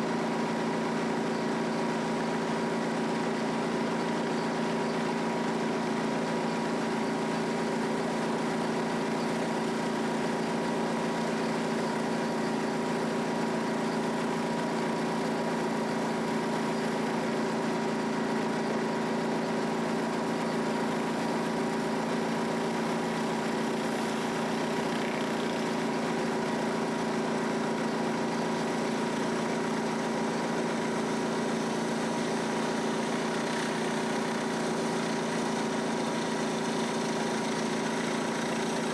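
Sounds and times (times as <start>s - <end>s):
pressure washer engine running: 0.0s - 38.9s.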